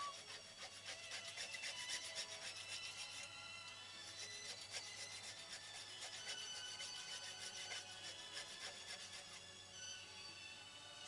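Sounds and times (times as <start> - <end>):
rapid rasping scrape: 0.0 - 9.6
music: 0.0 - 11.0.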